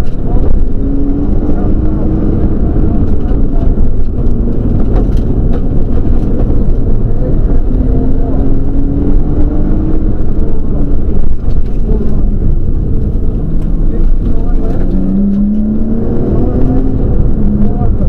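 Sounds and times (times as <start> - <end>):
car engine running hard: 0.0 - 18.0
road and tyre noise: 0.0 - 18.0.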